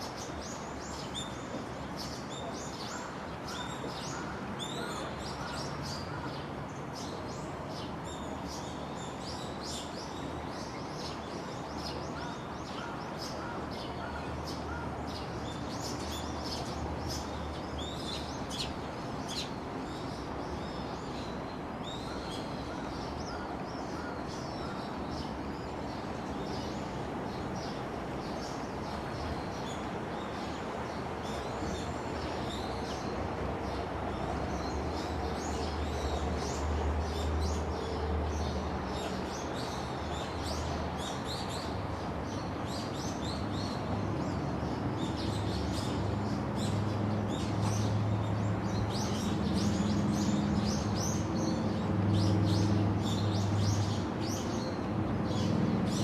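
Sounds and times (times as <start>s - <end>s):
small birds chirping and twittering: 0.0s - 56.0s
steady background noise: 0.0s - 56.0s.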